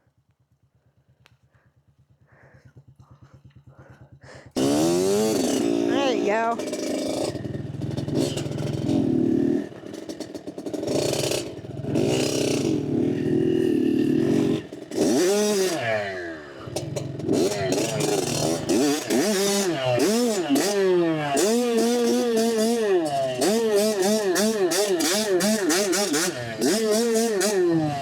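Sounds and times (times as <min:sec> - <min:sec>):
dirt bike engine revving: 0:04.4 - 0:28.0.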